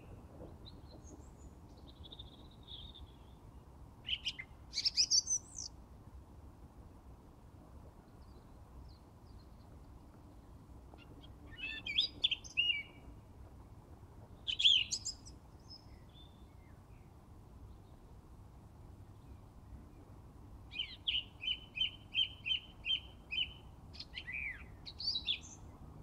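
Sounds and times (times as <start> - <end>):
songbird singing: 0.0 - 5.8, 7.9 - 13.4, 14.2 - 18.2, 19.0 - 26.0
faint low background noise: 0.0 - 26.0.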